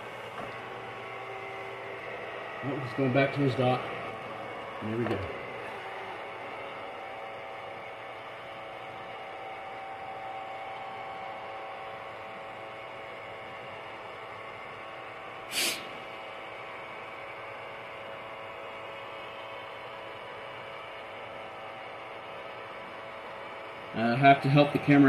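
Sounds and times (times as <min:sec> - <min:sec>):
robot vacuum motors humming: 0:00.0 - 0:25.0.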